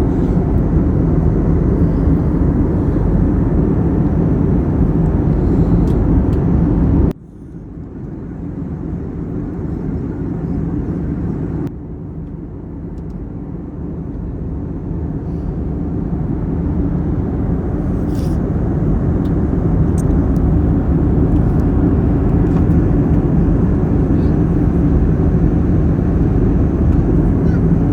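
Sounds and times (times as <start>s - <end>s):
jet engine cabin roar: 0.0s - 27.9s.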